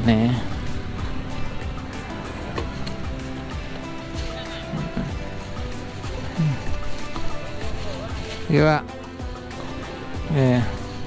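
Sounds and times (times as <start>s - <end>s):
background music with held notes: 0.0s - 11.0s
faint road and engine noise: 0.0s - 11.0s.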